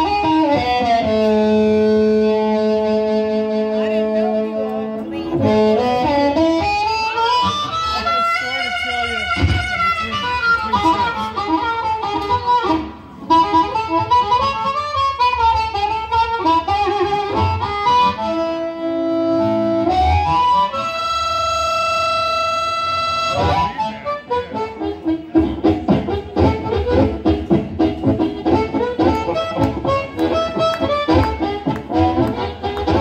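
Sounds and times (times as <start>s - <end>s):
guitar accompaniment: 0.0s - 33.0s
harmonica solo: 0.0s - 33.0s.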